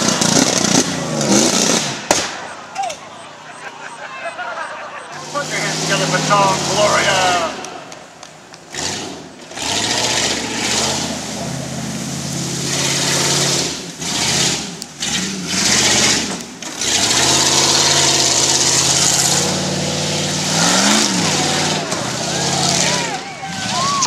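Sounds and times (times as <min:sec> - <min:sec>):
suv engine revving: 0:00.0 - 0:02.6, 0:04.2 - 0:24.0.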